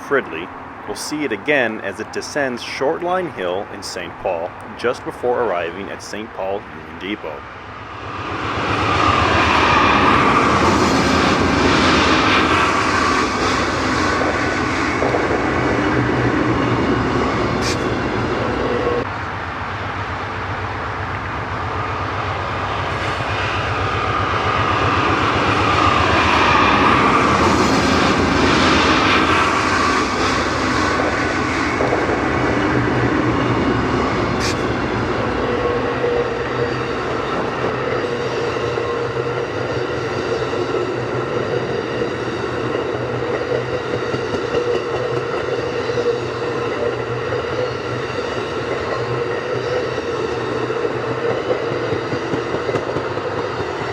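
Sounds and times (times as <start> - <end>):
diesel locomotives running: 0.0 - 53.9
train wheels rolling on rails: 0.0 - 53.9.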